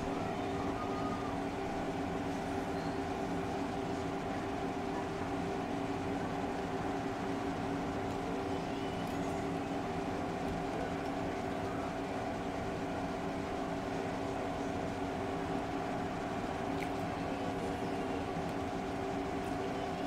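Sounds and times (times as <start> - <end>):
background hum with constant tones: 0.0 - 20.0.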